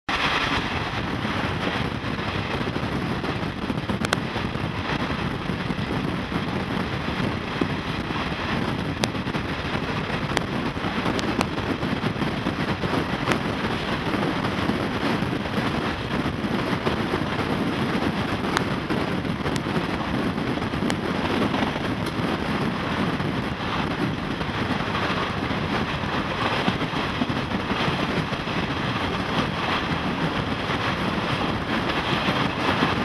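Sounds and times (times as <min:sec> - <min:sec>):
train wheel and track noise: 0:00.1 - 0:33.0
wind on microphone: 0:00.1 - 0:33.0.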